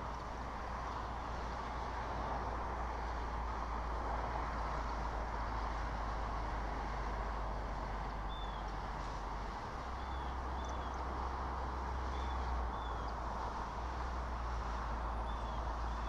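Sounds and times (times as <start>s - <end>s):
constant low hum: 0.0s - 16.0s.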